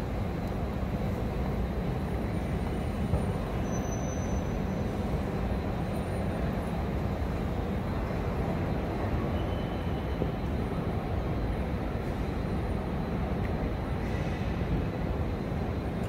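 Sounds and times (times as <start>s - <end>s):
train station ambience rumble: 0.0s - 16.0s.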